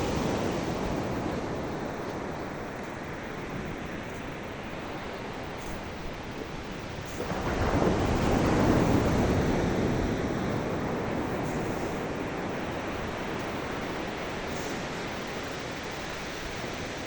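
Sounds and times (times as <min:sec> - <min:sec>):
surf hiss: 0:00.0 - 0:17.0.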